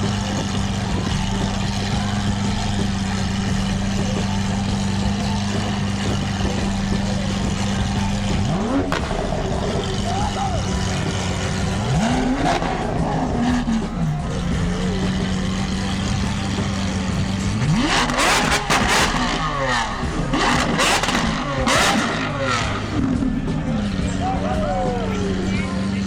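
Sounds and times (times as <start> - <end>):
exhaust cracks and pops: 0.0 - 24.6
car engine revving: 0.0 - 26.0.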